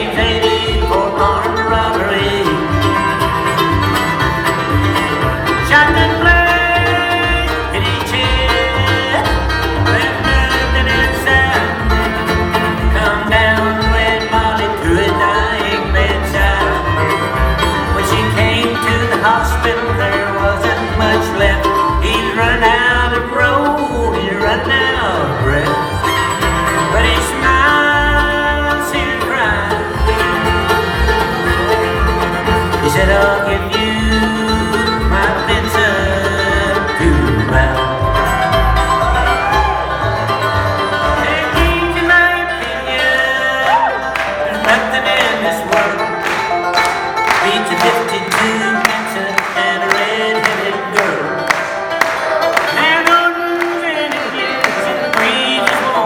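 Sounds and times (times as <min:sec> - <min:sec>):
upright bass beat: 0:00.0 - 0:49.2
acoustic guitar: 0:00.0 - 0:56.0
banjo: 0:00.0 - 0:56.0
fiddle: 0:00.0 - 0:56.0
mandolin: 0:00.0 - 0:56.0.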